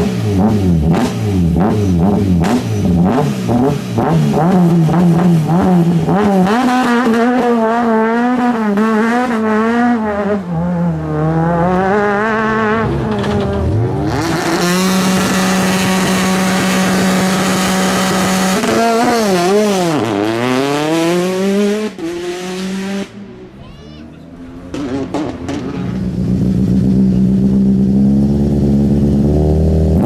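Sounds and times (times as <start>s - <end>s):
rally car engine revving: 0.0s - 23.6s, 24.2s - 30.0s.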